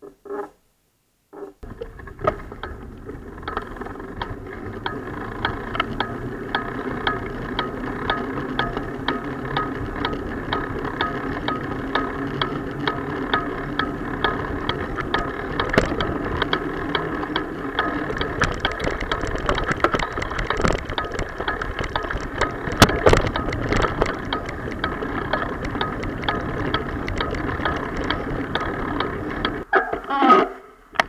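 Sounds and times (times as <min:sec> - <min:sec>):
rattling knocks: 0:01.6 - 0:29.6
bicycle riding rumble: 0:01.6 - 0:29.7
regular ticking: 0:01.6 - 0:29.7.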